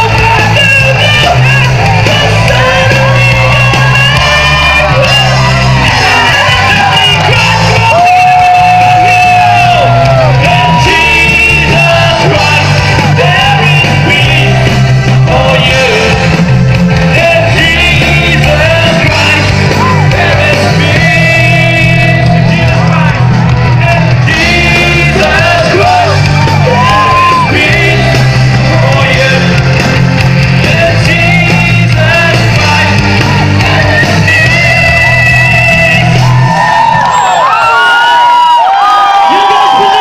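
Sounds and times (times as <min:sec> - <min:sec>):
person singing: 0:00.0 - 0:36.5
live band music: 0:00.0 - 0:37.1
heavy bass line: 0:00.0 - 0:37.5
crowd shouting: 0:00.0 - 0:40.0.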